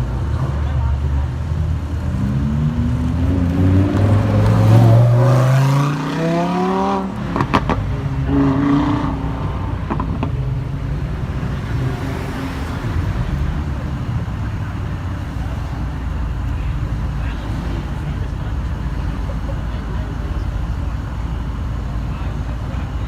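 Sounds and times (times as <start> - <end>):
car engine accelerating: 0.0 - 23.0
exhaust cracks: 1.8 - 22.9.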